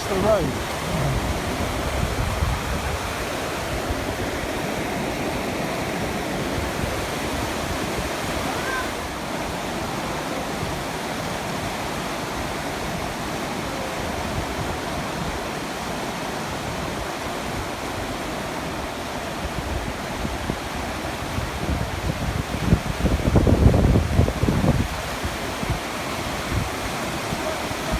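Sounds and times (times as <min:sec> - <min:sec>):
floodwater rushing: 0:00.0 - 0:27.9.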